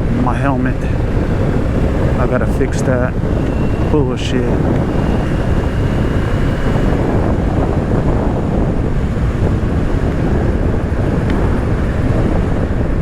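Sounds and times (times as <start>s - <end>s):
motorcycle engine running: 0.0s - 13.0s
wind rush over helmet microphone: 0.0s - 13.0s.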